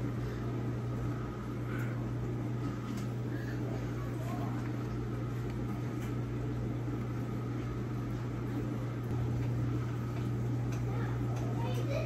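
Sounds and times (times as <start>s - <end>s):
low machine hum with hiss: 0.0s - 12.0s.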